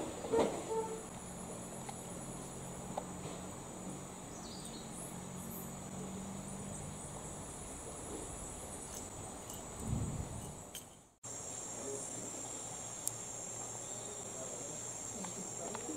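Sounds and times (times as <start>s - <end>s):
insects chirring drone: 0.0s - 15.9s.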